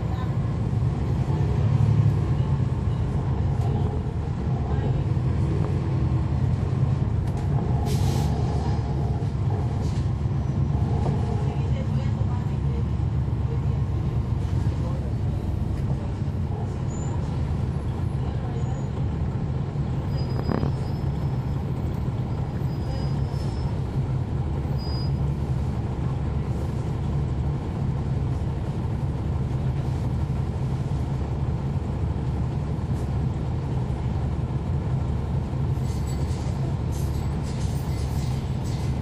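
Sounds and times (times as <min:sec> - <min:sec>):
bus diesel engine droning: 0:00.0 - 0:39.0.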